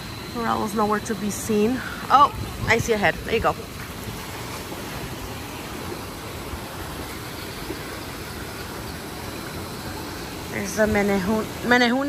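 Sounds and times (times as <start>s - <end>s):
water rushing and splashing: 1.0s - 12.0s.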